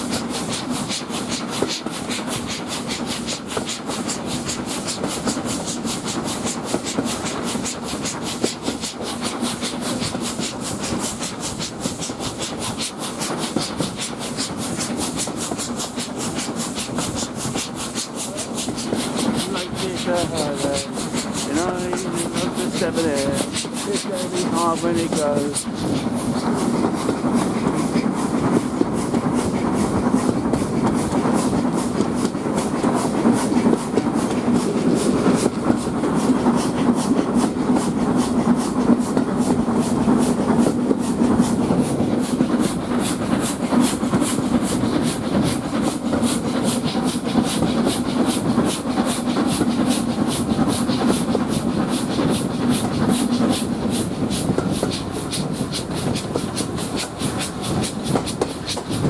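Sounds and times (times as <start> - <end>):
coaches running on rails: 0.0 - 59.0
steam locomotive chuffing: 0.0 - 59.0.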